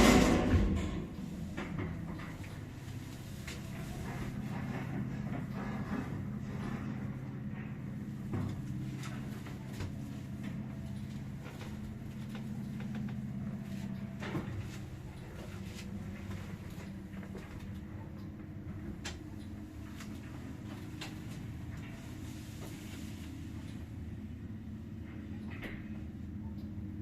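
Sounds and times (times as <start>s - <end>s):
lift mechanical hum: 0.0s - 27.0s.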